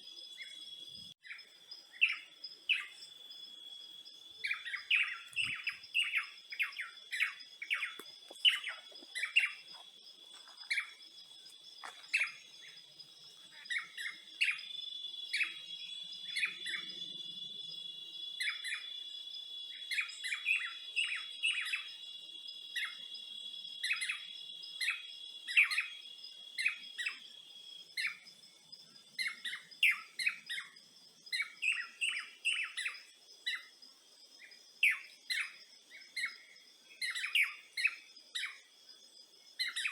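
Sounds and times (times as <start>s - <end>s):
high-pitched insect trill: 0.0s - 39.9s
songbirds chirping: 0.0s - 39.9s.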